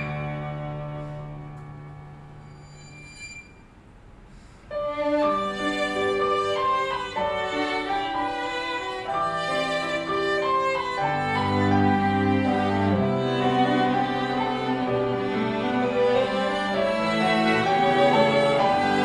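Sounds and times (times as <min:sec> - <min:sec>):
string quartet playing: 0:00.0 - 0:02.5, 0:04.8 - 0:19.0
low cello line: 0:00.0 - 0:03.5, 0:04.7 - 0:19.0.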